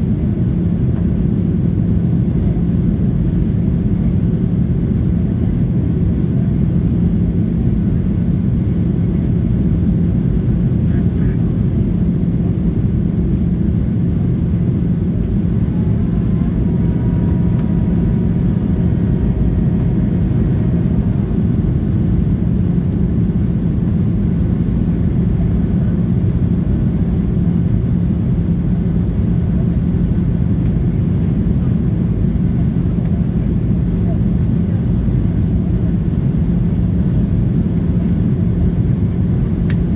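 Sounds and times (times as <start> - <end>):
airplane cabin engine rumble: 0.0 - 39.9
constant low hum: 0.0 - 39.9.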